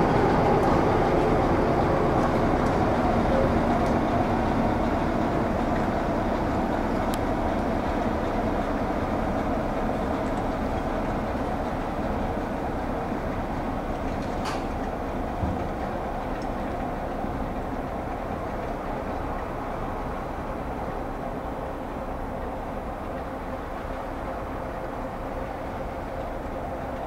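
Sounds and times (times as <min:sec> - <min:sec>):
diesel passenger train rumbling past: 0:00.0 - 0:27.0.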